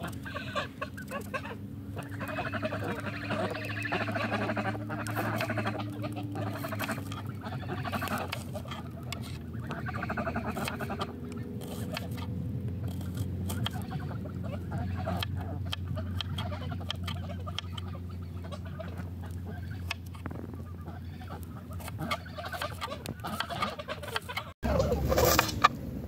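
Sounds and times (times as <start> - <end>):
fowl chattering: 0.0 - 25.7.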